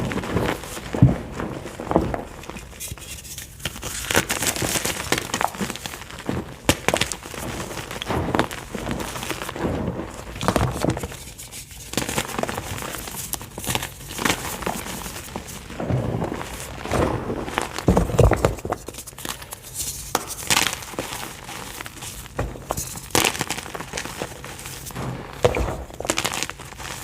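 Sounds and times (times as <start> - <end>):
chalk crunching and crackling: 0.0 - 27.0.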